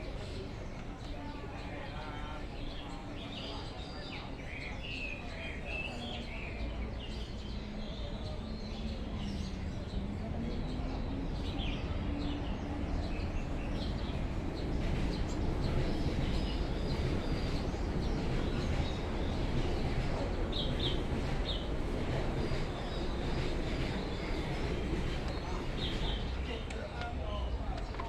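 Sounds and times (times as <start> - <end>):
low rumble of city noise: 0.0 - 28.0
songbirds chirping: 0.0 - 28.0.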